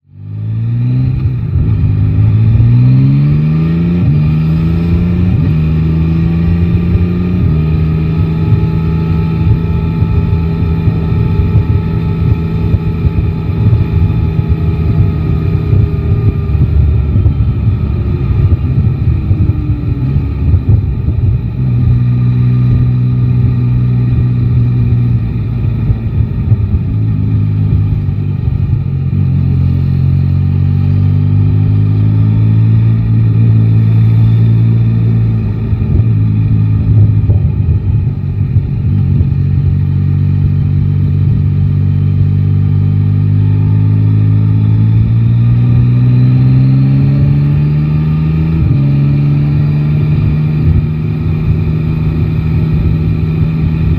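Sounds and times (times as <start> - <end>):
motorcycle engine accelerating: 0.0 - 53.9
wind rumbling on microphone: 0.5 - 53.9.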